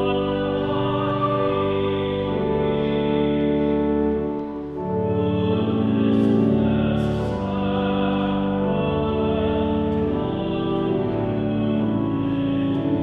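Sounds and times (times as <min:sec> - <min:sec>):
organ chords: 0:00.0 - 0:13.0
people singing a hymn: 0:00.0 - 0:13.0.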